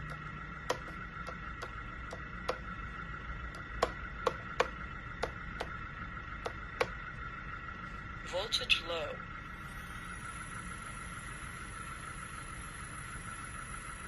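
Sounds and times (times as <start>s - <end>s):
high electric whine: 0.0s - 14.0s.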